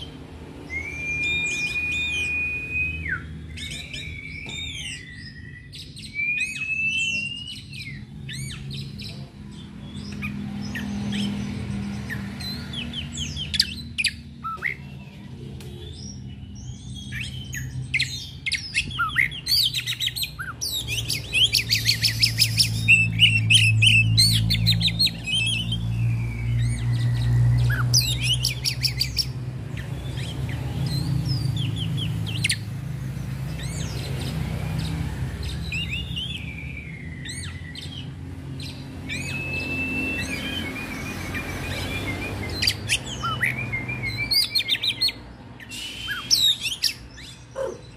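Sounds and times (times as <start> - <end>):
bird singing: 0.0 - 47.9.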